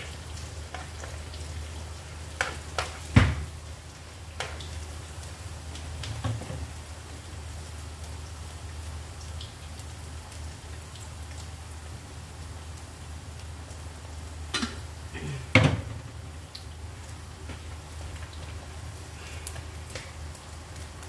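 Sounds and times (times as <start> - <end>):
food deep-frying in oil: 0.0 - 21.0.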